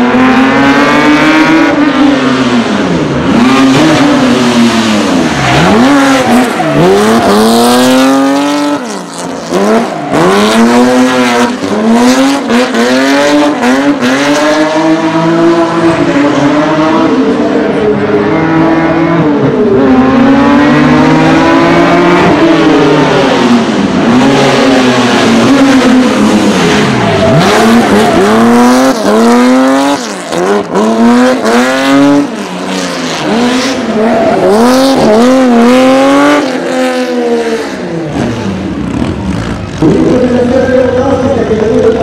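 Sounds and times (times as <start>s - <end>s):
car engine revving hard: 0.0s - 42.0s.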